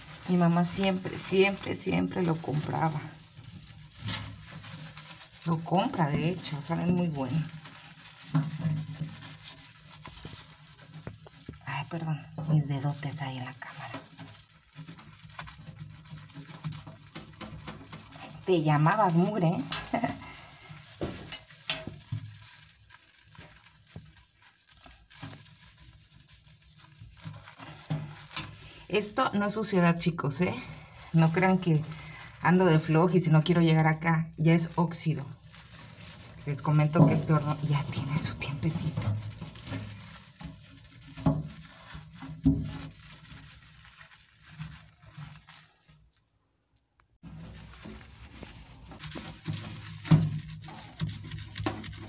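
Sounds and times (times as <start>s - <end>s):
scrubber rubbing inside microwave: 0.0s - 46.1s, 47.2s - 52.0s.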